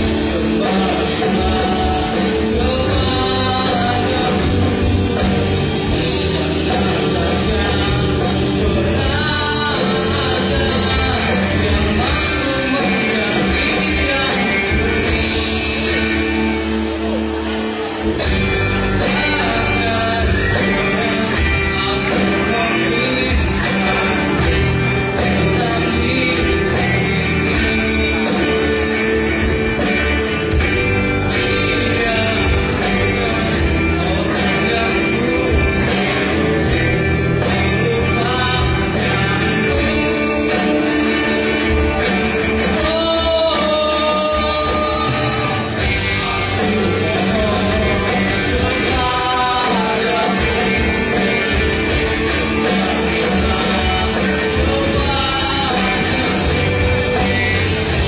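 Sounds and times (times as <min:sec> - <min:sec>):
bass guitar: 0:00.0 - 0:58.0
distorted electric guitars: 0:00.0 - 0:58.0
drum kit: 0:00.0 - 0:58.0
person singing: 0:00.0 - 0:58.0.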